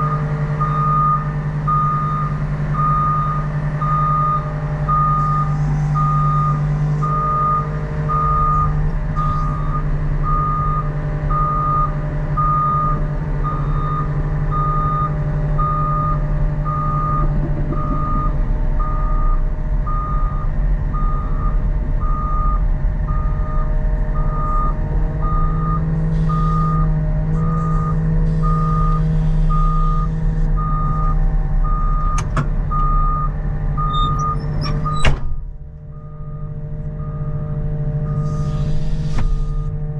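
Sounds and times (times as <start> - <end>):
reversing alarm beeping: 0.0 - 35.2, 35.9 - 39.8
diesel engine running: 0.0 - 39.9.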